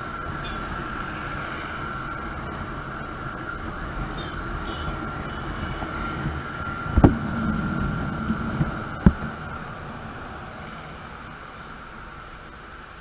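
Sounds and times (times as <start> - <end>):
steady high hum: 0.0 - 12.8
motorcycle wind and road noise: 0.0 - 13.0.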